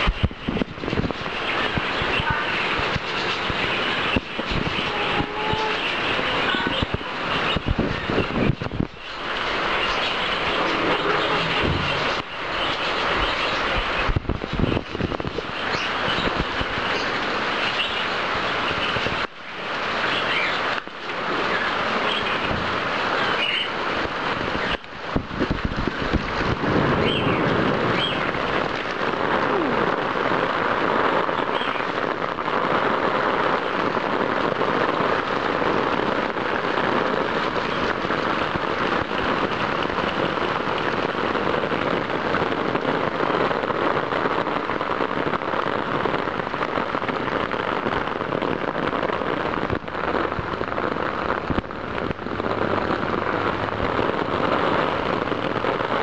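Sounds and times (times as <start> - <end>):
heavy rain on plastic: 0.0 - 56.0.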